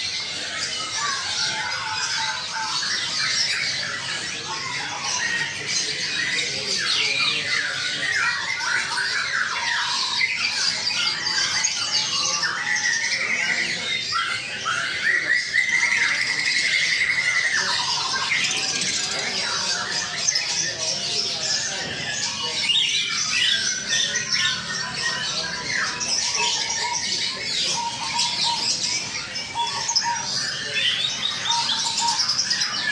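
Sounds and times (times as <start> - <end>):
caged birds chirping and squawking: 0.0 - 32.9.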